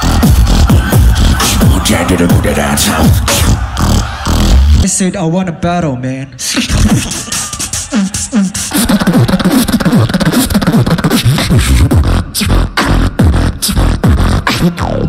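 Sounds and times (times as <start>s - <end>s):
person beatboxing: 0.0s - 4.9s, 6.3s - 15.0s.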